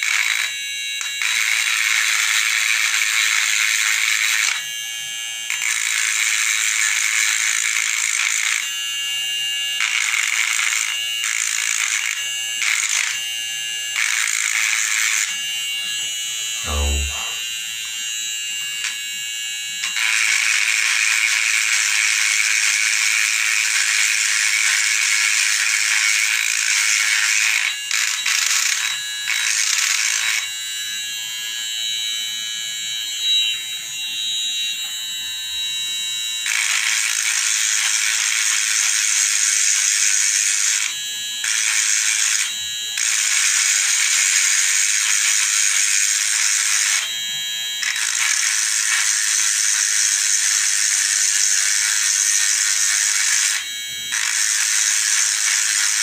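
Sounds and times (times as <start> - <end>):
electric motor tool buzzing: 0.0 - 56.0.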